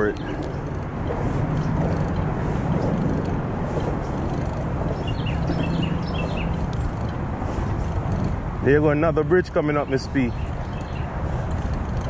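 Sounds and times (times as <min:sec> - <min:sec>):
bicycle rolling on pavement: 0:00.0 - 0:12.0.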